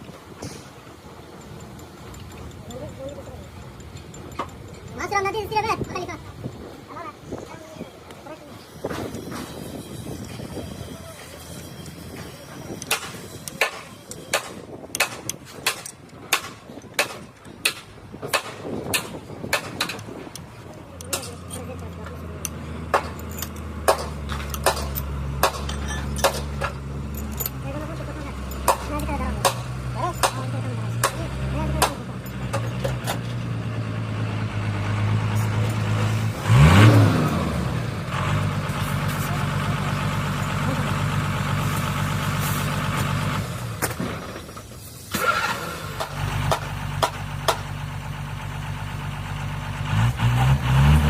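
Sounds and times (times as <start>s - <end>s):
engine idling and revving: 0.0s - 51.0s.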